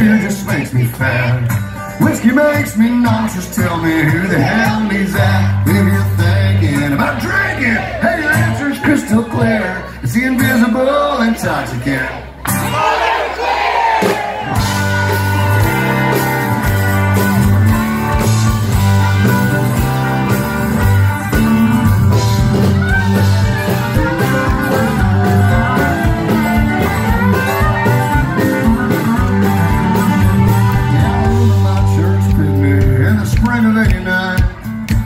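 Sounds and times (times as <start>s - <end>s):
country band playing instrumental: 0.0s - 35.0s.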